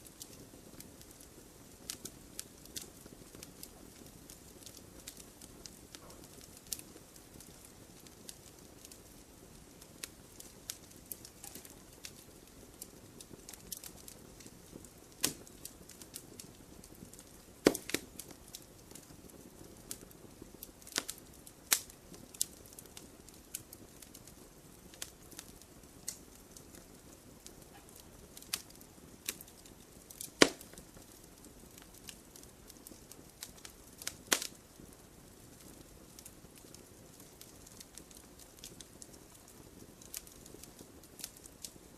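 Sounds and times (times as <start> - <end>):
campfire crackling and popping: 0.0 - 41.9
soft low hiss: 0.0 - 41.9.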